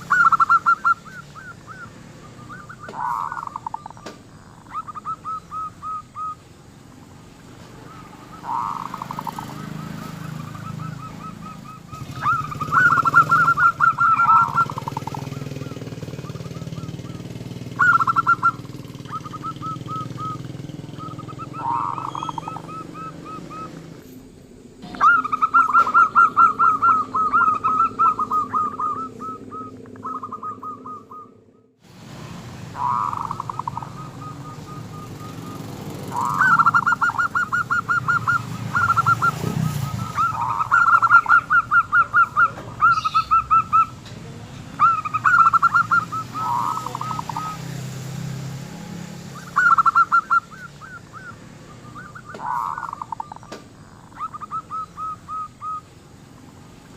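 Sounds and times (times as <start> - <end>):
dove cooing: 0.0 - 6.6, 7.2 - 31.7, 32.6 - 48.5, 49.3 - 56.7
faint high bird chirps: 0.0 - 31.8, 32.7 - 47.8, 49.3 - 56.5.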